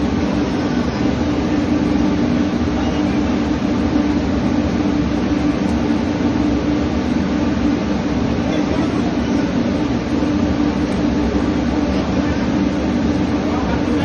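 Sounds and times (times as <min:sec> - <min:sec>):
ship machinery drone: 0:00.0 - 0:14.0.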